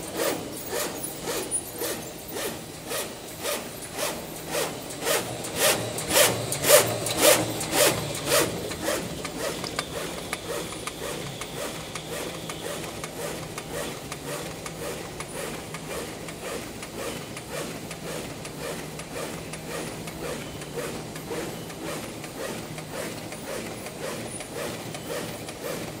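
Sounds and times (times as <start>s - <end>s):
die-cutting machine strokes: 0.0s - 26.0s.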